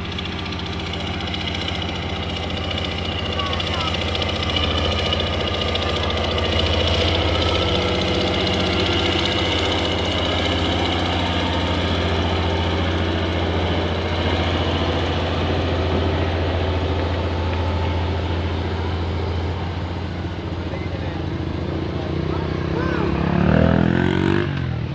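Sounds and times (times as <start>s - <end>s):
heavy machinery diesel engine droning: 0.0s - 24.9s.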